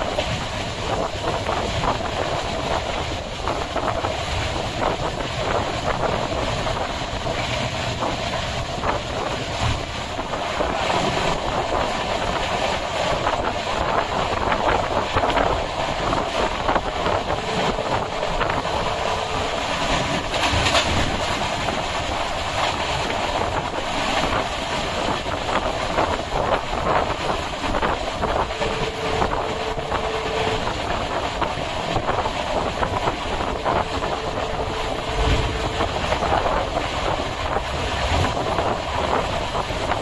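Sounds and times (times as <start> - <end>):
train wheels rumbling on rails: 0.0 - 40.0
wind noise on microphone: 0.0 - 40.0.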